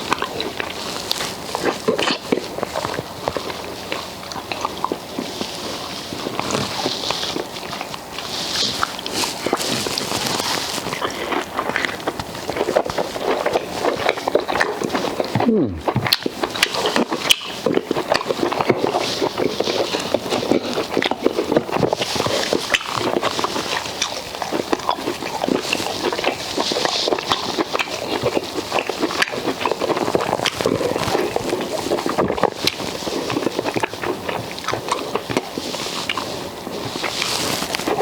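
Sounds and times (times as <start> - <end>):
wet chewing and lip-smacking: 0.0 - 38.0.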